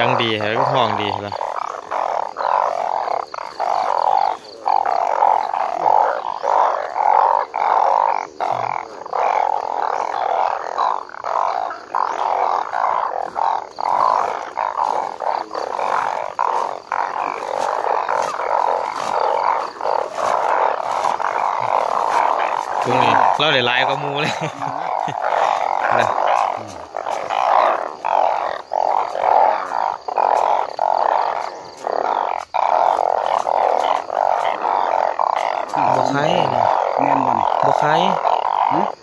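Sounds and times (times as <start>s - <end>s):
chorus of croaking frogs: 0.0s - 39.0s.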